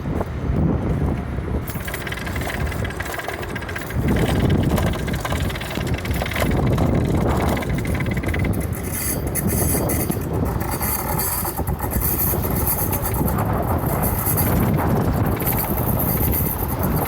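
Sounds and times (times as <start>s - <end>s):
bicycle road noise: 0.0s - 17.0s
wind on microphone: 0.0s - 17.0s.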